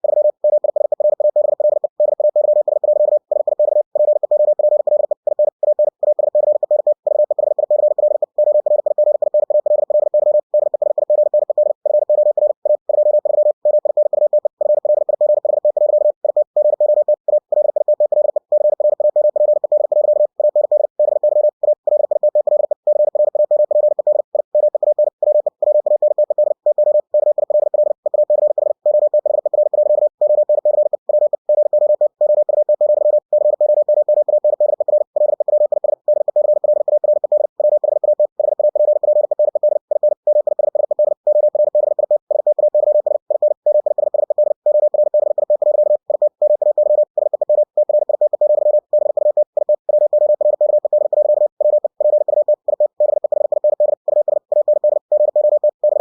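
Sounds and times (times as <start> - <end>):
morse code tone: 0.0 - 56.0.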